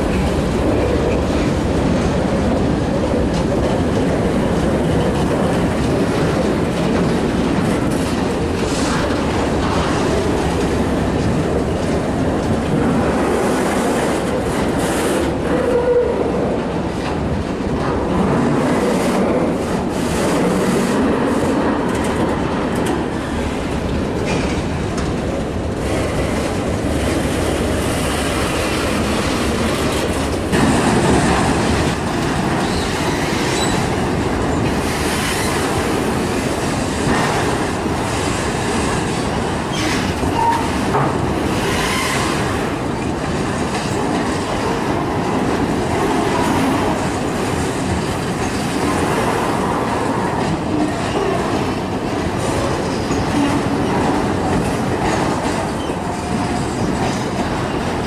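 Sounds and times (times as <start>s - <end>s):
clickety-clack over rail joints: 0.0s - 58.0s
freight train wheels rumbling on rail: 0.0s - 58.0s.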